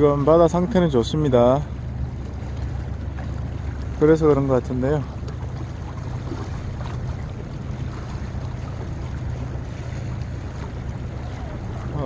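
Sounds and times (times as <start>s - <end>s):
low hum: 0.0s - 12.0s
sea noise: 0.0s - 12.0s
wind: 0.0s - 12.0s.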